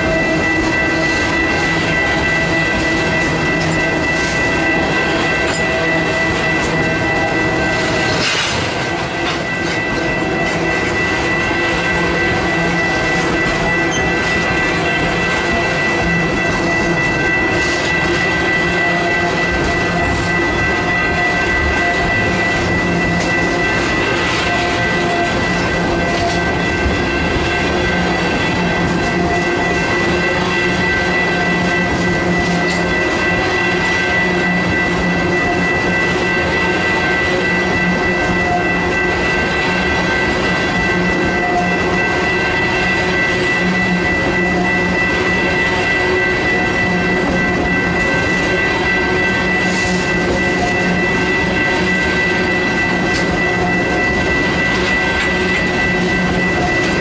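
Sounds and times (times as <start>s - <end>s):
freight train wheels rumbling: 0.0s - 57.0s
high-pitched ringing tone: 0.0s - 57.0s.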